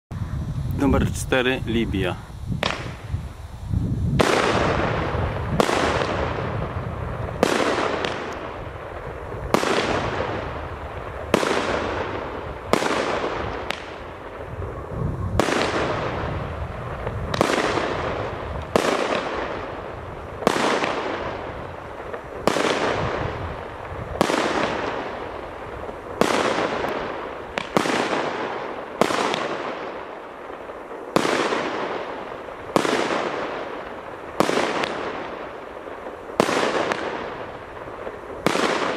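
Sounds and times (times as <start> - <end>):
fireworks cake bangs: 4.2 - 14.6, 15.3 - 38.9.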